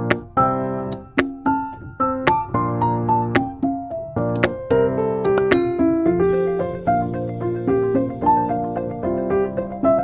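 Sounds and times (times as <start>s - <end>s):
light piano melody: 0.0s - 10.0s.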